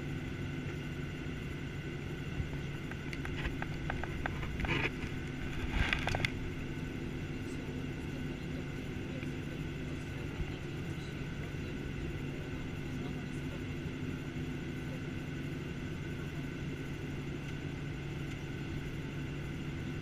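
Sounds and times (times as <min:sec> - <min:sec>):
jet engines idling: 0:00.0 - 0:20.0.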